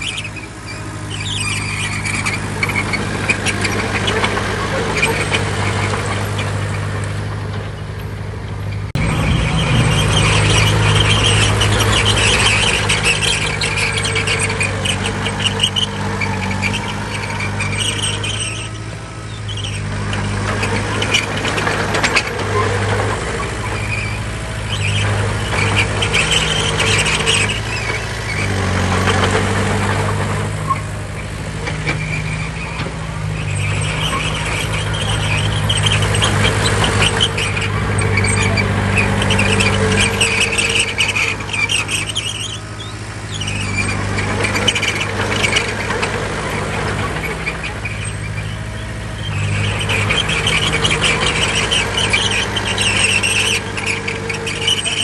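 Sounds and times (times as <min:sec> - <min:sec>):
bulldozer diesel engine: 0:00.0 - 0:55.0
high metallic squealing: 0:00.0 - 0:55.0.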